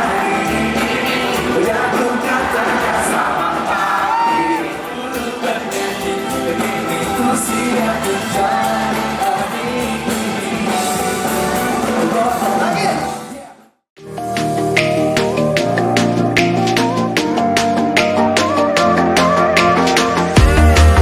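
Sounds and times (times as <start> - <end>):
song with sung melody: 0.0 - 21.0.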